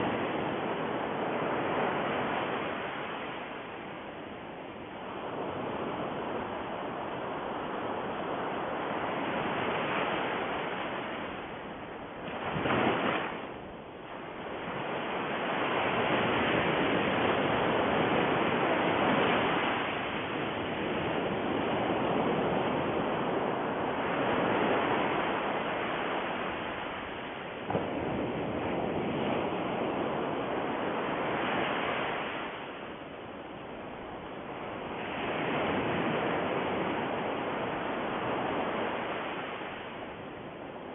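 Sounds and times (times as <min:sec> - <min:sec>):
rushing surf-like noise: 0:00.0 - 0:40.9.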